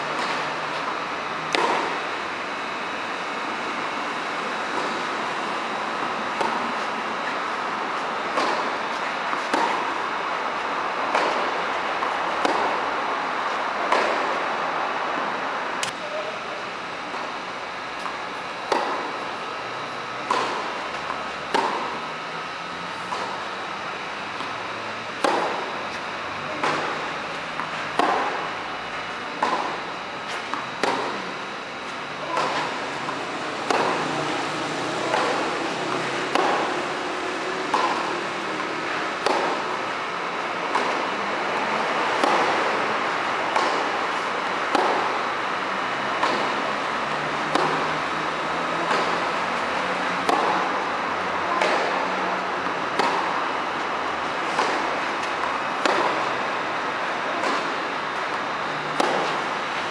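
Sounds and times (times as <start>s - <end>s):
tennis balls hit by rackets: 0.1s - 3.7s, 4.6s - 5.3s, 6.0s - 16.1s, 17.1s - 22.1s, 22.9s - 23.5s, 24.3s - 31.5s, 32.2s - 59.9s.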